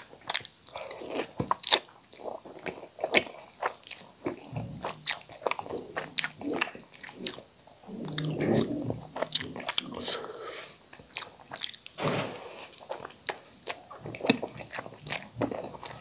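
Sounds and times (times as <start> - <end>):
wet chewing with mouth smacks: 0.0 - 12.0, 12.8 - 16.0.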